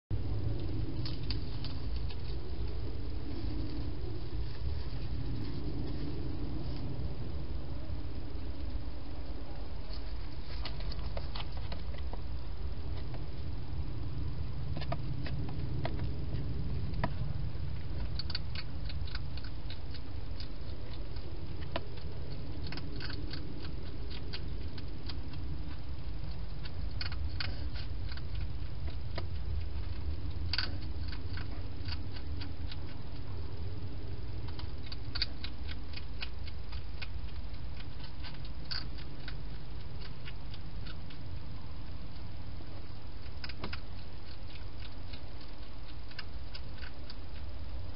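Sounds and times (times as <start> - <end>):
steady low hum: 0.1 - 47.9
hedgehog crunching food: 0.2 - 47.9.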